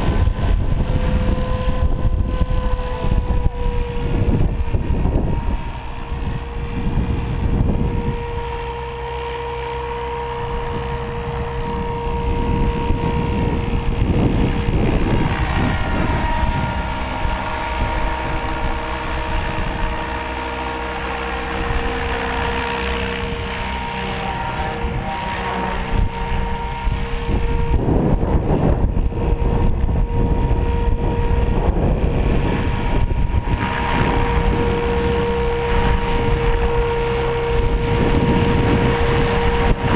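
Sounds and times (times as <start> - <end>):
helicopter motor and rotor whine: 0.0 - 39.9
wind rumbling on microphone: 0.0 - 39.9.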